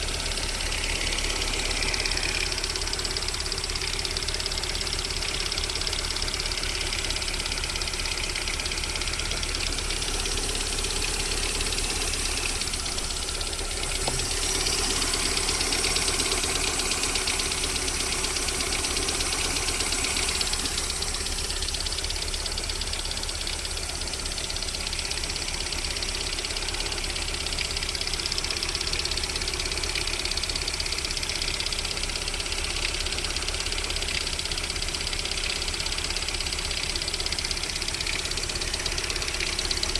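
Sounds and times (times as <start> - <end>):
car engine idling: 0.0 - 39.9
rhythmic engine knock: 0.0 - 39.9.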